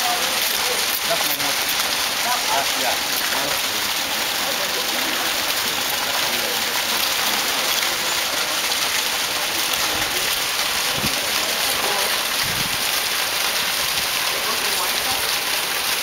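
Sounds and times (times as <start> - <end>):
waterfalls pouring into river pool: 0.0 - 16.0.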